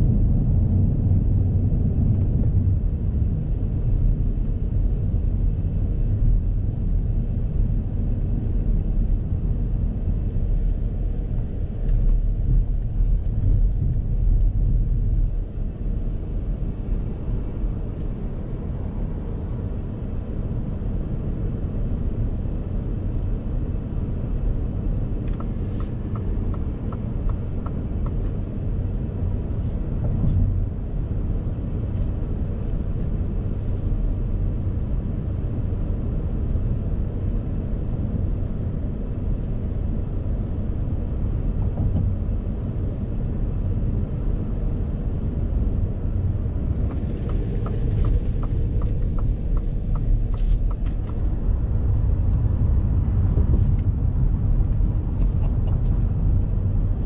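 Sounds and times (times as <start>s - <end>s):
tyre road and wind noise: 0.0s - 57.0s.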